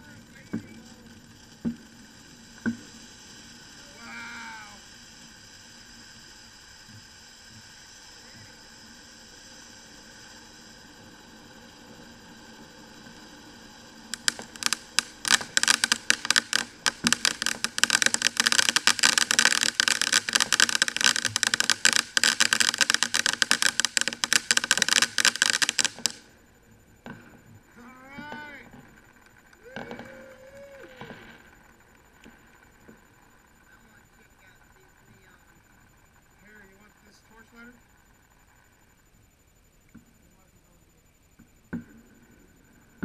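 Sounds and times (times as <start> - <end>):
firework fountain hissing: 0.0 - 39.0
rapid loud firework crackling: 0.0 - 39.0.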